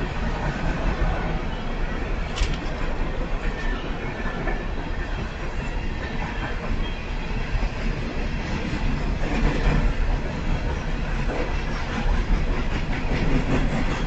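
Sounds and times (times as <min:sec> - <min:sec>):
train wheels clacking on rails: 0:00.0 - 0:14.0.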